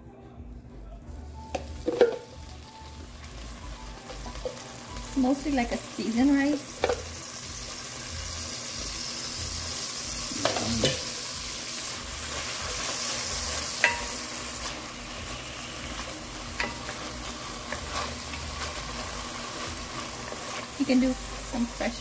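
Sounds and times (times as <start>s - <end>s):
rice sizzling in oil: 1.5s - 22.0s.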